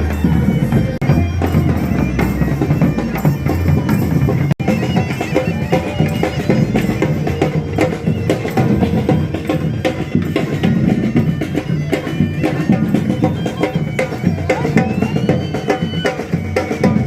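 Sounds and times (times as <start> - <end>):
drums beating: 0.0 - 17.0
reedy wind instrument melody: 0.0 - 17.0.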